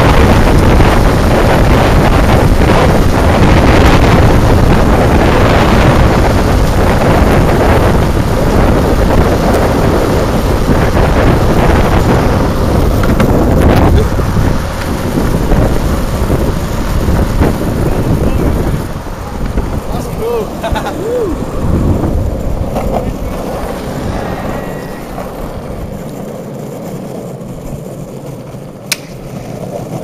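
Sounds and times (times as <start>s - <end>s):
longboard wheels rolling on asphalt: 0.0s - 30.0s
wind rushing over microphone: 0.0s - 30.0s.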